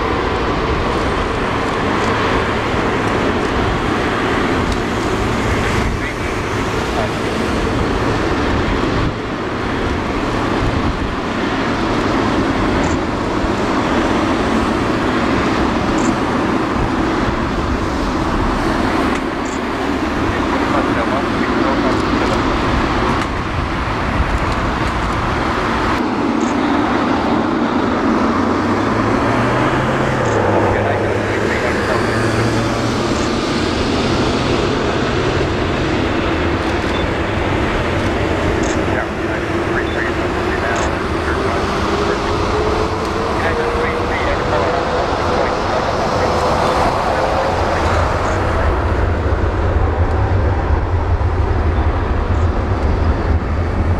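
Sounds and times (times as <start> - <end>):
jet engine noise: 0.0 - 53.9.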